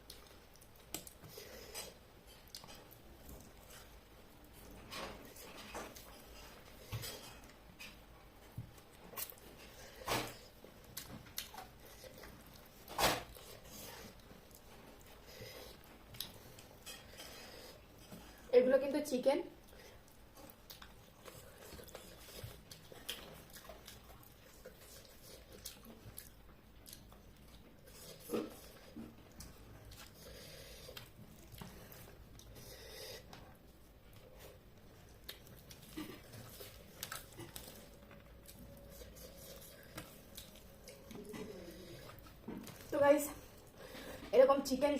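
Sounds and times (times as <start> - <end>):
wet chewing and lip clicks: 0.0 - 17.4, 19.6 - 33.5, 34.1 - 42.9.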